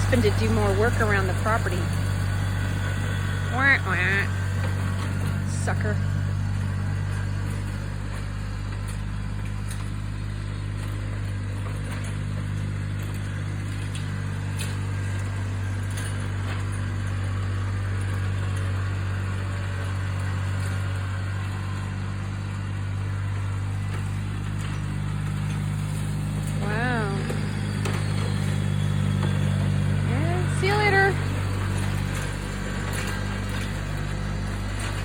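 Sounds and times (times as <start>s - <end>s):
lawn tractor engine running: 0.0s - 35.0s.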